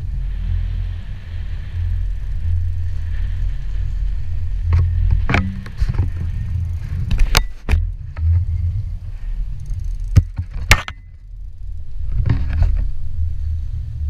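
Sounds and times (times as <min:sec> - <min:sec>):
wind and boat rumble: 0:00.0 - 0:14.0.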